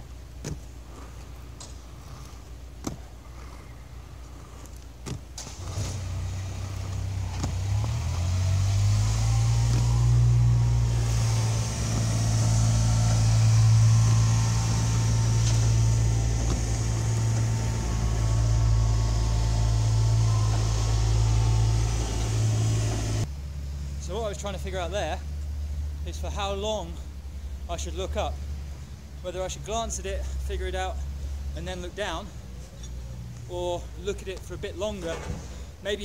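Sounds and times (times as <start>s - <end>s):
vehicle engine running: 0.0s - 35.8s.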